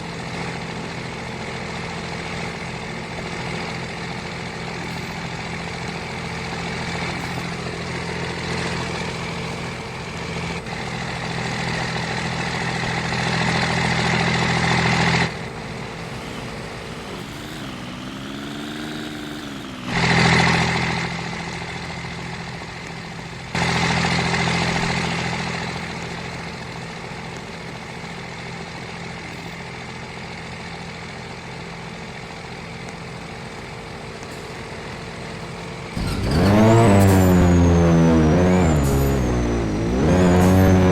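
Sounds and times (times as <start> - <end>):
engine humming: 0.0 - 29.6, 31.8 - 40.9.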